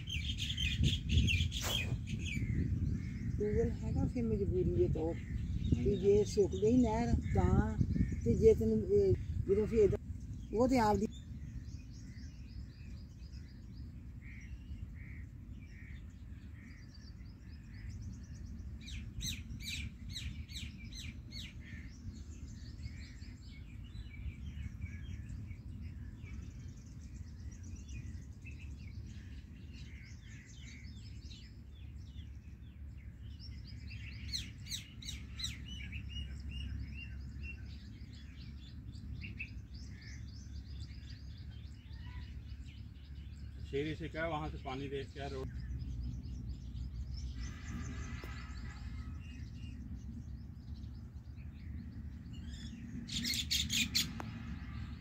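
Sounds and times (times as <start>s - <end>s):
low rumble: 0.0s - 43.6s, 45.4s - 55.0s
small birds chirping: 0.0s - 55.0s.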